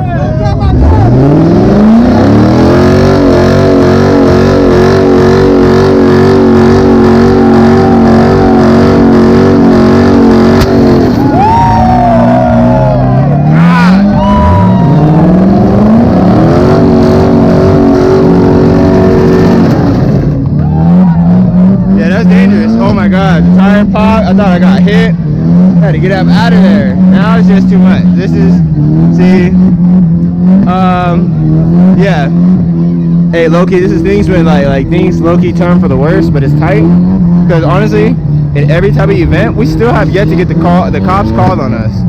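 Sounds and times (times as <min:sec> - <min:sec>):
car engine revving: 0:00.0 - 0:42.0
tires squealing: 0:00.0 - 0:42.0.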